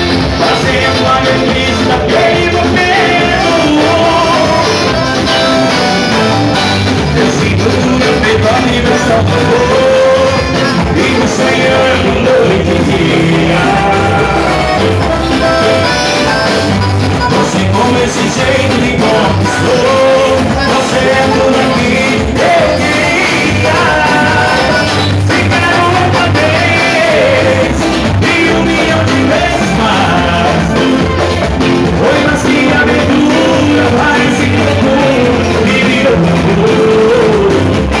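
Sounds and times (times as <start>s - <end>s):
drums: 0.0s - 38.0s
electric guitar: 0.0s - 38.0s
person singing: 0.0s - 38.0s.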